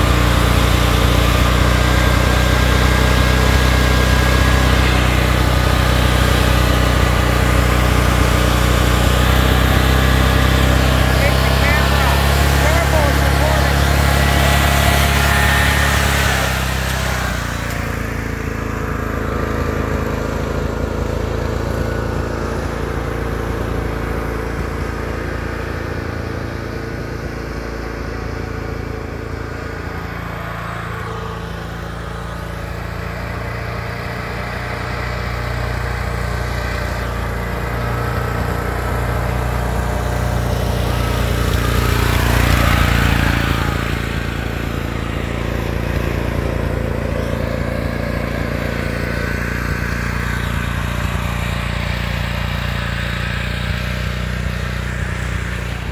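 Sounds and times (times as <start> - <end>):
lawn tractor engine running: 0.0 - 55.9.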